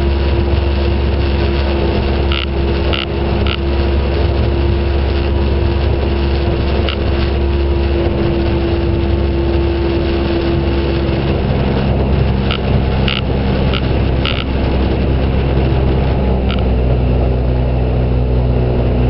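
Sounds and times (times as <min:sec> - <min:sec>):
motor boat engine droning: 0:00.0 - 0:19.0.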